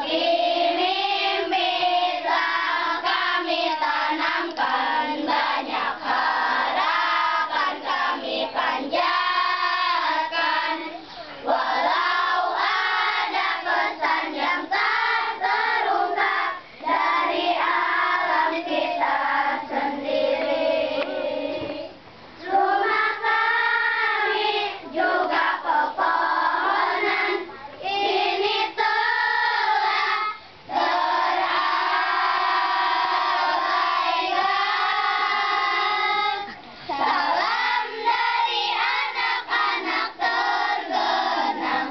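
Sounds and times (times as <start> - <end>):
children singing in chorus: 0.0 - 41.9.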